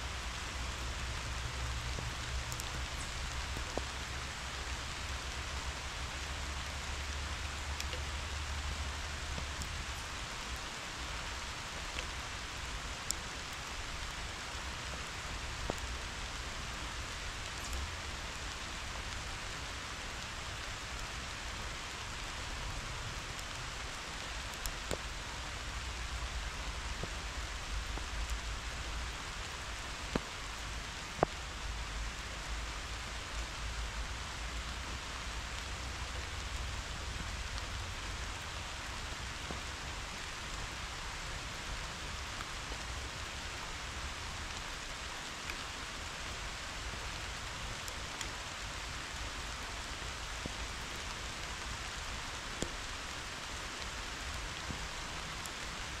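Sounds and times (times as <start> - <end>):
rain falling on grass: 0.0 - 56.0
raindrops ticking close by: 0.0 - 56.0.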